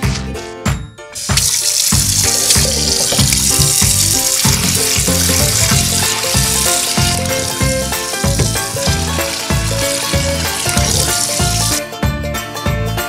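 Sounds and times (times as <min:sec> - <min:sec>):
tap water splashing into pans: 0:01.2 - 0:11.8
background music with steady beat: 0:02.0 - 0:13.0.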